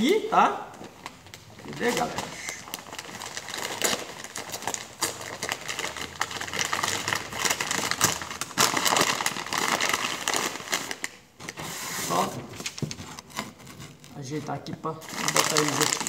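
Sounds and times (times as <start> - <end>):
paper sack tearing and crackling: 1.7 - 16.0.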